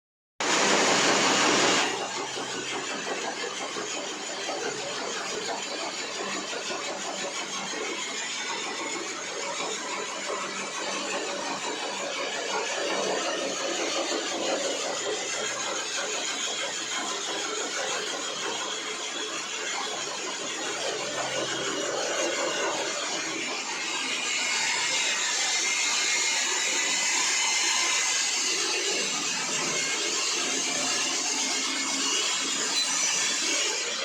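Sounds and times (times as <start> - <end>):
core drill grinding: 0.4 - 34.0.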